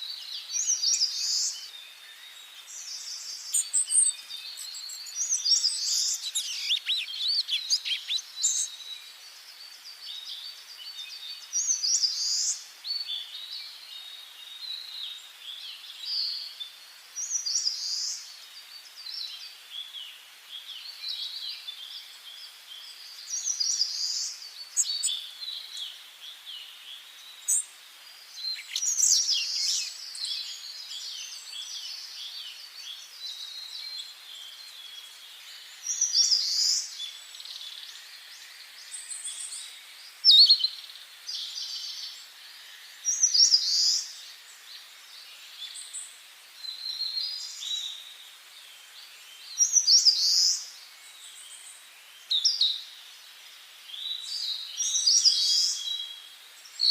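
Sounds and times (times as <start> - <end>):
faint steady hiss: 0.0 - 56.9
songbirds singing: 0.0 - 56.9.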